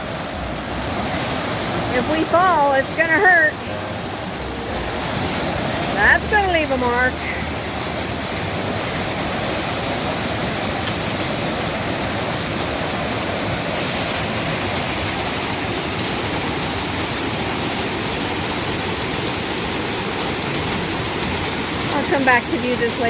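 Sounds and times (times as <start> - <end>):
fast-flowing creek water: 0.0 - 23.0.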